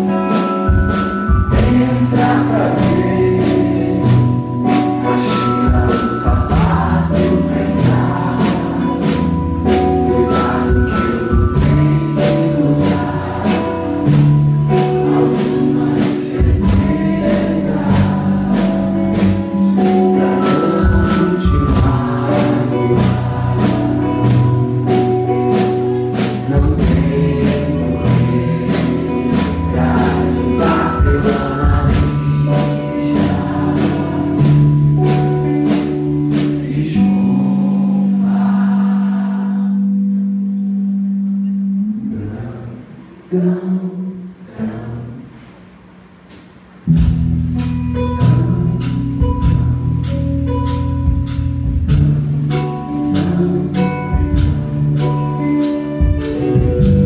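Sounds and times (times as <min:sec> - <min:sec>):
person singing: 0:00.0 - 0:40.6, 0:47.6 - 0:50.2, 0:51.9 - 0:57.0
live band playing: 0:00.0 - 0:42.5, 0:46.3 - 0:57.0.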